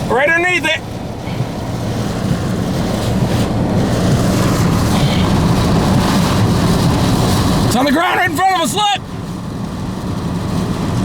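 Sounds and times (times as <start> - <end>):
tornado wind roaring: 0.0 - 11.0.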